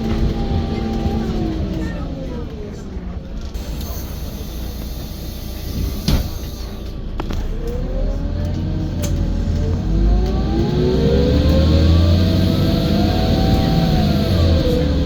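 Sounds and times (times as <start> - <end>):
bus engine whine accelerating: 0.0 - 15.0.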